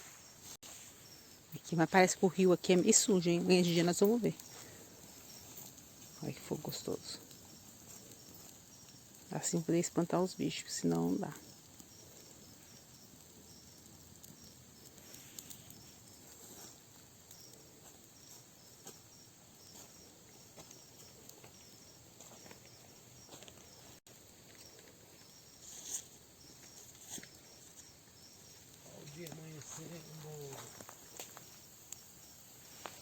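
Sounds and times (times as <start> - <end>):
campfire crackling and popping: 0.0 - 33.0
crickets chirping: 0.0 - 33.0.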